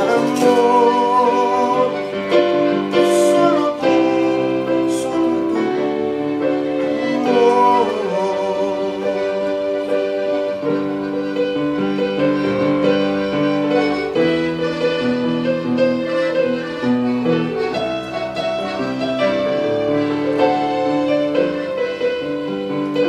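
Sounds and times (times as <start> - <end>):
electronic keyboard melody: 0.0 - 23.0.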